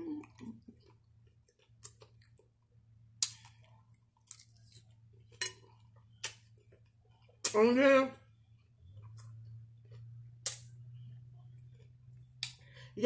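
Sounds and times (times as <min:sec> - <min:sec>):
person chewing salad: 0:00.0 - 0:07.5, 0:08.3 - 0:13.0
faint low hum: 0:00.0 - 0:13.0.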